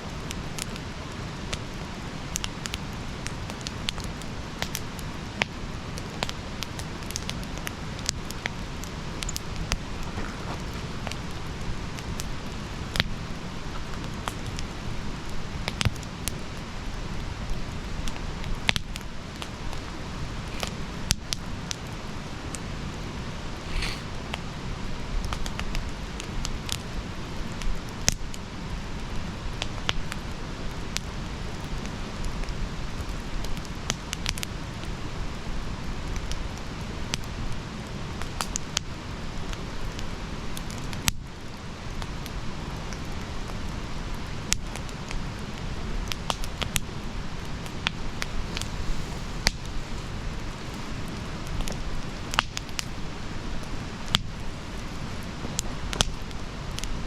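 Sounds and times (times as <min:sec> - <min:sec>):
bonfire crackling: 0:00.0 - 0:57.0
faint hiss: 0:00.0 - 0:57.0.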